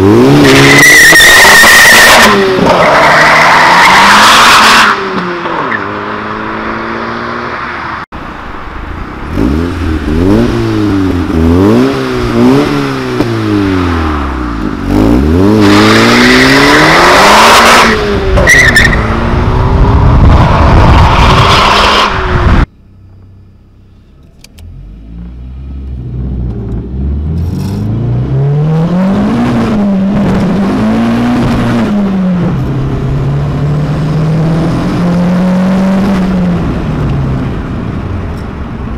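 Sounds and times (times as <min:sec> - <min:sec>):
turbocharged car engine revving: 0:00.0 - 0:07.7, 0:09.3 - 0:22.7, 0:25.9 - 0:37.0.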